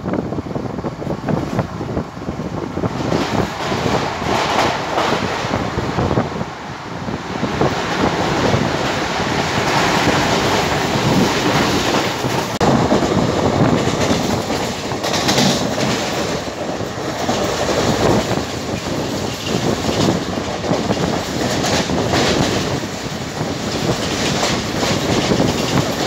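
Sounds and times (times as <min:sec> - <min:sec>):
train rolling noise: 0:00.0 - 0:26.0
train wheels clattering over rail joints: 0:02.8 - 0:05.8, 0:07.6 - 0:26.0.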